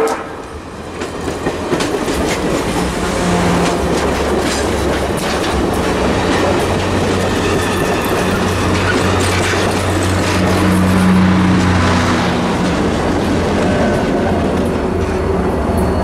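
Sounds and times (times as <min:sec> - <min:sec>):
wheels clicking over rail joints: 0:00.0 - 0:15.9
train cars rumbling past: 0:00.0 - 0:16.0.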